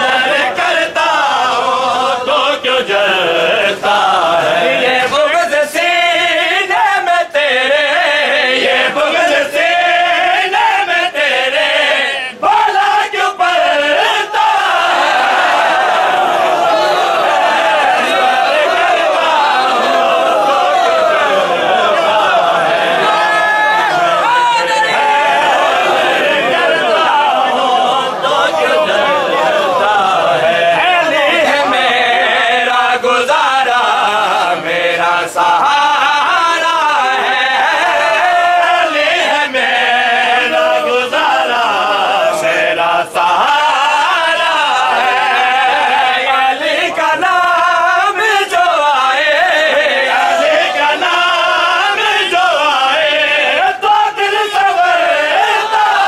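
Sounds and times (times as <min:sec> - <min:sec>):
men chanting a lament: 0:00.0 - 0:56.0.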